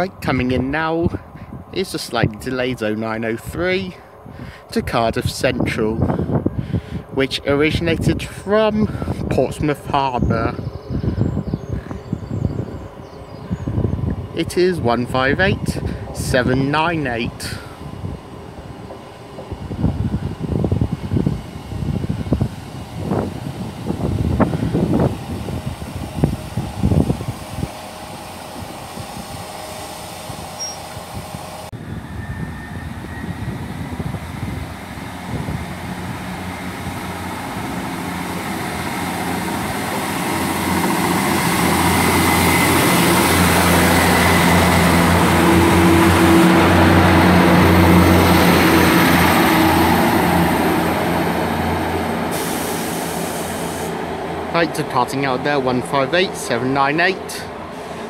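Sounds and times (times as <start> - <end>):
diesel train engines drone: 0.0 - 58.0.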